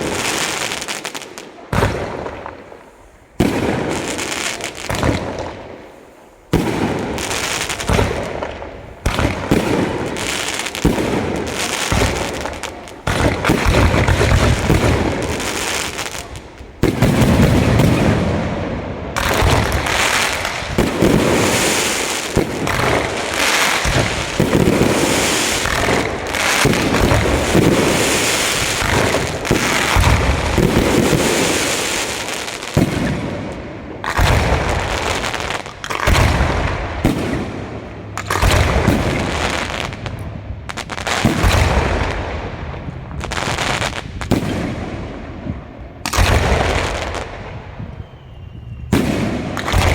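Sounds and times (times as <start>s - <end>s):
fireworks booming: 0.0s - 49.9s
fireworks crackling: 0.0s - 49.9s.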